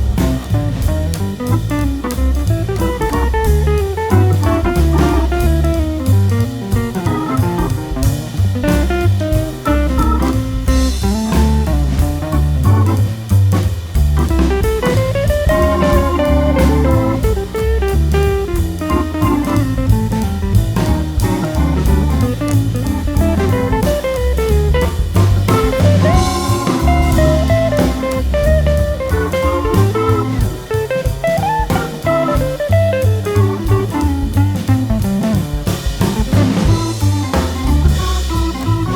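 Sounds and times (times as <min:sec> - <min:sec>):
drum kit beat: 0:00.0 - 0:38.9
guitar blues jazz tune: 0:00.0 - 0:38.9.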